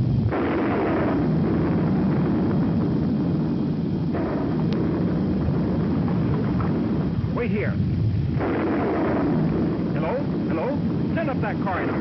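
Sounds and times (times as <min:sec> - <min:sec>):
volcano eruption rumble: 0:00.0 - 0:12.0.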